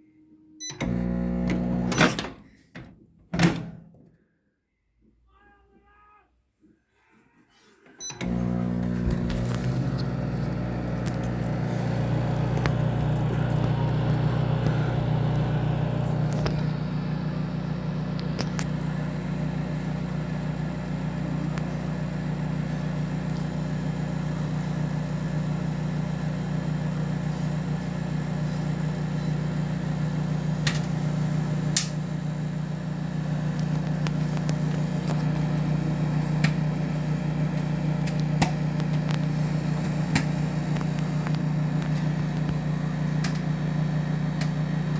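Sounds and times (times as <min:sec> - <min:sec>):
microwave oven humming: 0:00.6 - 0:02.3, 0:08.0 - 0:44.9.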